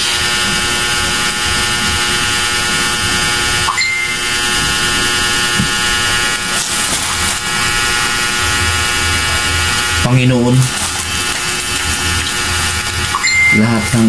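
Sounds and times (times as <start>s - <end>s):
loud buzzing drone: 0.0s - 14.0s.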